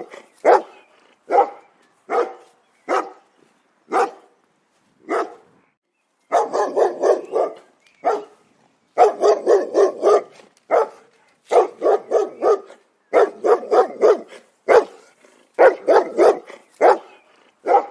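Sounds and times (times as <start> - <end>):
dog barking: 0.0 - 3.2, 3.9 - 4.3, 5.1 - 5.5, 6.3 - 8.4, 9.0 - 17.9.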